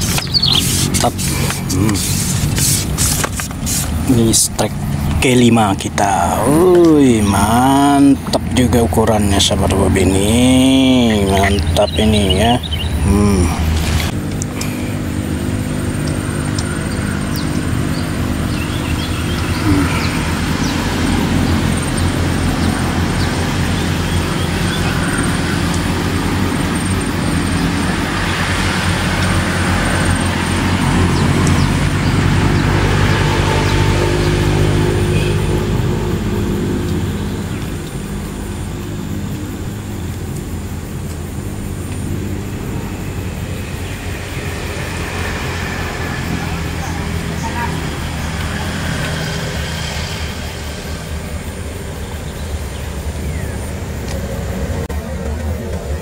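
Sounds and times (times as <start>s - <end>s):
motor engine running: 0.0s - 56.0s.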